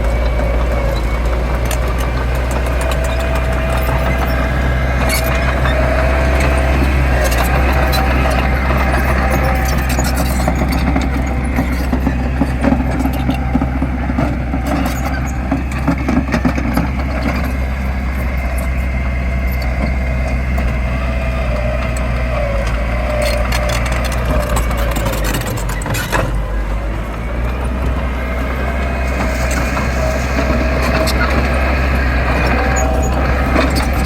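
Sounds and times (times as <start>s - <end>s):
diesel machinery engine rumble: 0.0s - 34.0s.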